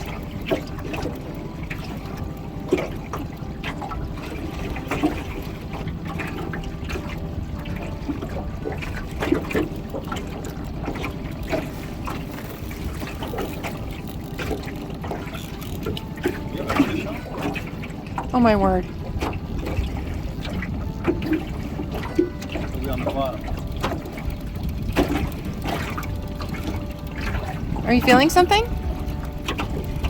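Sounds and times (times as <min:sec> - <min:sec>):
small splashes and plops: 0:00.0 - 0:30.0
water lapping against boat hull: 0:00.0 - 0:30.0.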